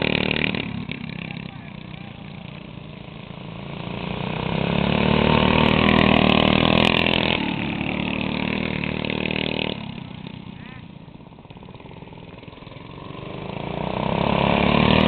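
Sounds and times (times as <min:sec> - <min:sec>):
lawn mower engine passing by: 0:00.0 - 0:15.0.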